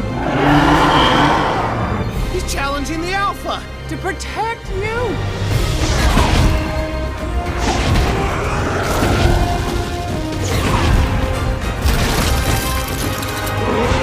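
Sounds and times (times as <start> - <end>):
orchestral score: 0.0 - 14.0.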